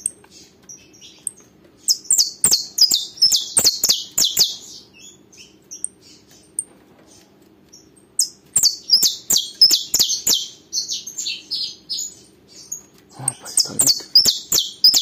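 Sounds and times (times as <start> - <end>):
finch singing high chirps: 0.0 - 15.0.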